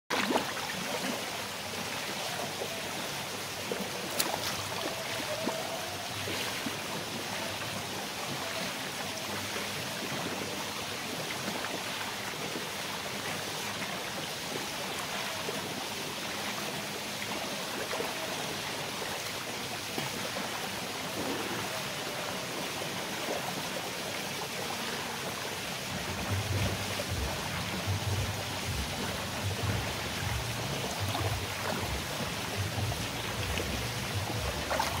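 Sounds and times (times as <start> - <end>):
pool water splashing: 0.1 - 35.0.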